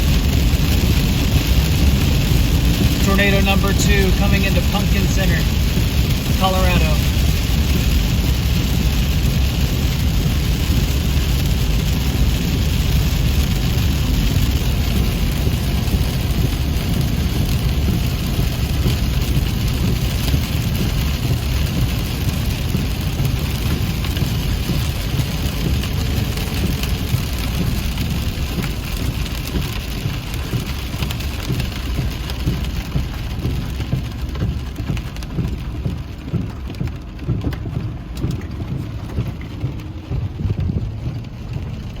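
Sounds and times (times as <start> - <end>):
deep continuous rumble: 0.0 - 42.0
heavy rain: 0.0 - 42.0.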